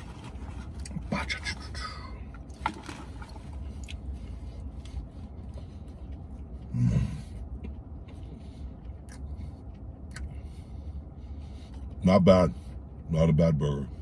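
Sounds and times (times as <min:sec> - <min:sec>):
man chewing food: 0:00.0 - 0:12.0
steady low rumble: 0:00.0 - 0:14.0.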